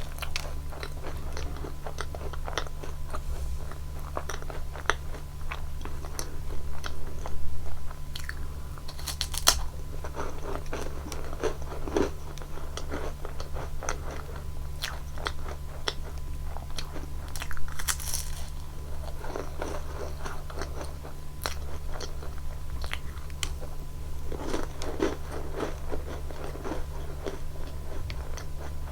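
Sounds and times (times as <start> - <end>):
crunching and chewing cookie: 0.0 - 28.9
steady low hum: 0.0 - 28.9.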